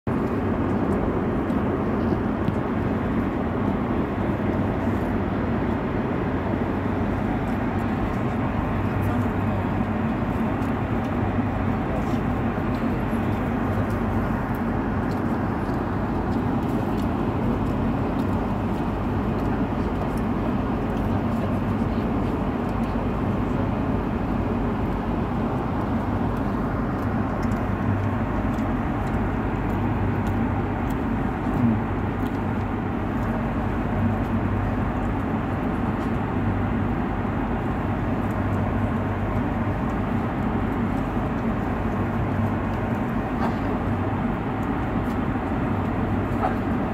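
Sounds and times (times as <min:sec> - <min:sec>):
airliner cabin engine drone: 0:00.1 - 0:46.9.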